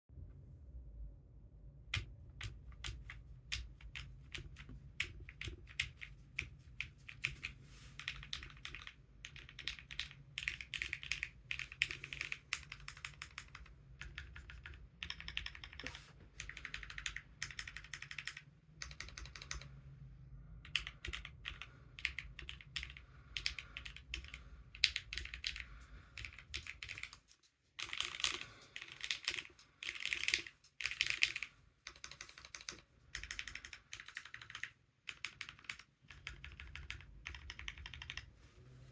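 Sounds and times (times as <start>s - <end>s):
mechanical keyboard typing: 1.9s - 19.7s, 20.6s - 38.3s.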